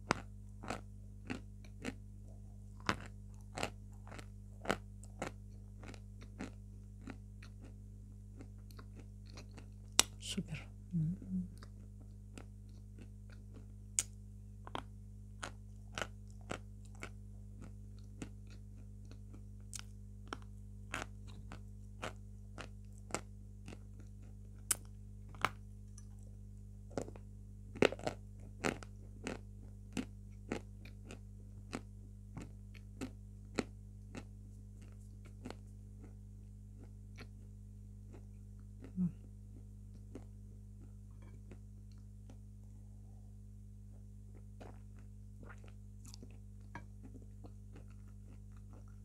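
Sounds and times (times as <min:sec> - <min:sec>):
chalk crunching while chewed: 0:00.0 - 0:02.0, 0:02.7 - 0:10.2, 0:11.6 - 0:26.2, 0:26.9 - 0:37.5, 0:38.1 - 0:42.4, 0:44.3 - 0:49.0.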